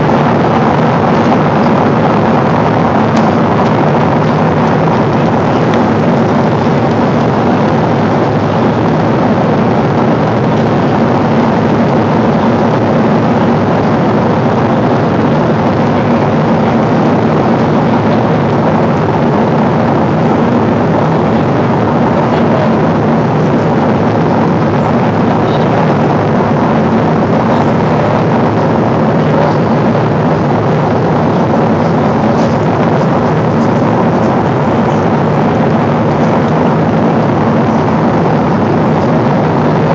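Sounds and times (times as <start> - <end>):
air rushing along fuselage: 0.0 - 39.9
faint steady tones: 0.0 - 39.9
jet engines humming: 0.0 - 39.9.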